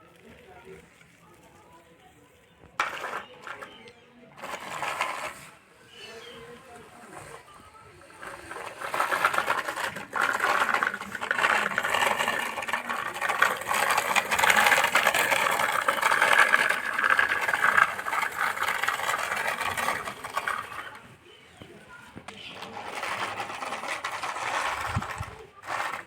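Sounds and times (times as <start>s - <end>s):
toy motor and gears whirring: 2.8s - 21.6s, 22.4s - 26.0s.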